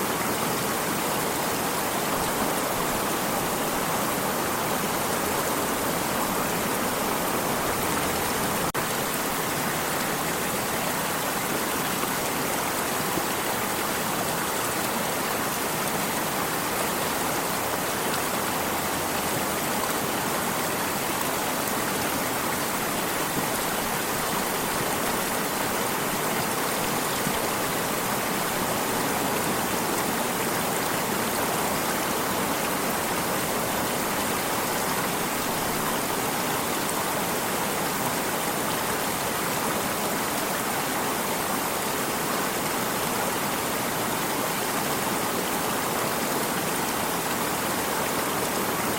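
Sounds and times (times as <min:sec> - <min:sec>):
stream flowing: 0:00.0 - 0:48.9.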